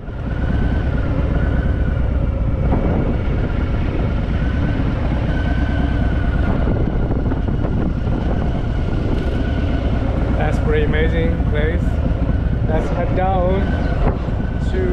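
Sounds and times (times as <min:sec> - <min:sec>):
motorcycle engine rumbling: 0:00.0 - 0:14.9.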